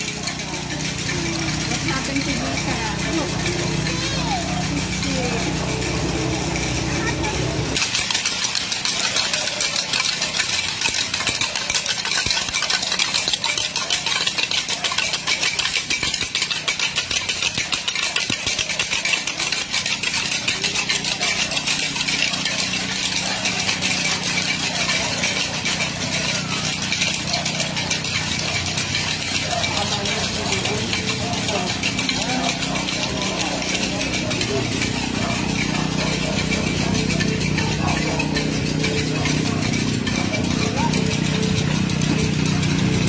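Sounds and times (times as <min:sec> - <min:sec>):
engine idling: 0:00.0 - 0:43.0
rapid high-pitched ticking: 0:00.0 - 0:43.0.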